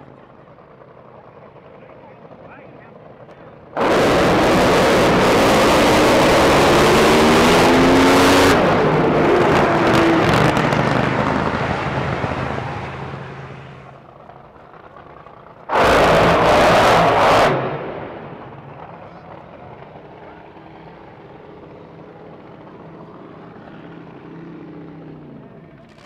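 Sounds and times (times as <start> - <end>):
drag boat engines roaring: 0.0 - 26.0.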